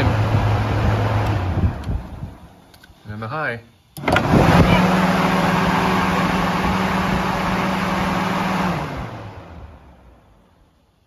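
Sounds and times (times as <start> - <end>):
electric cooling fans running: 0.0 - 11.0.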